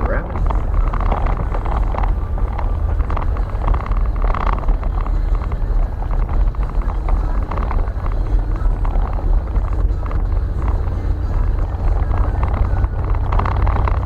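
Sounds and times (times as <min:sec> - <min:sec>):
small vehicle engine running: 0:00.0 - 0:14.0.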